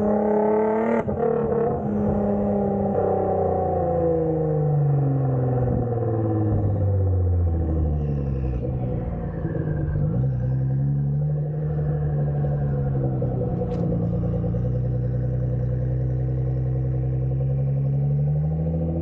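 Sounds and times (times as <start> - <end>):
car engine with loud exhaust: 0.0 - 19.0.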